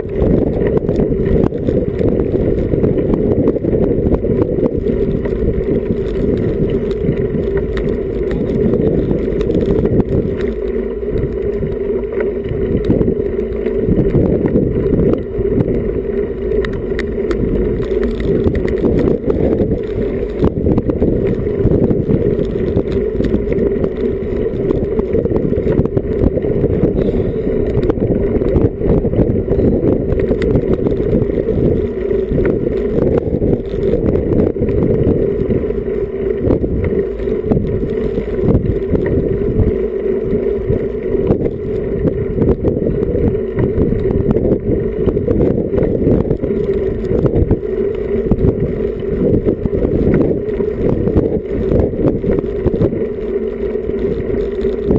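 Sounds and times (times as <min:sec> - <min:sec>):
rolling road noise: 0:00.0 - 0:54.9
wind buffeting microphone: 0:00.0 - 0:54.9.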